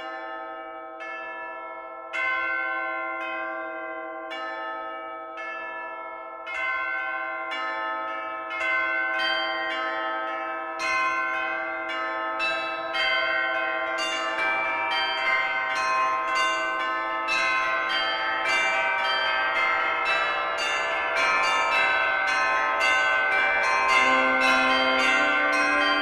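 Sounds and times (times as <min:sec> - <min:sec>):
bell-like chime music: 0:00.0 - 0:26.0.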